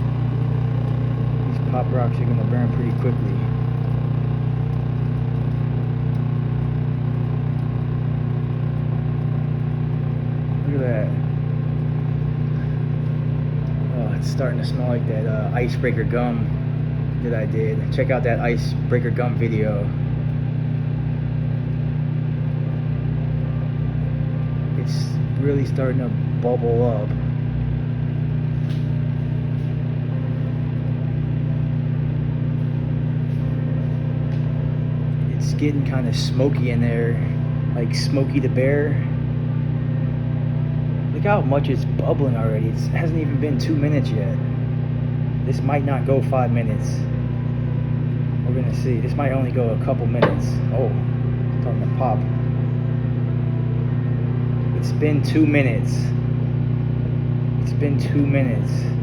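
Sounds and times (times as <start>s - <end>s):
microwave oven humming: 0.0s - 59.0s.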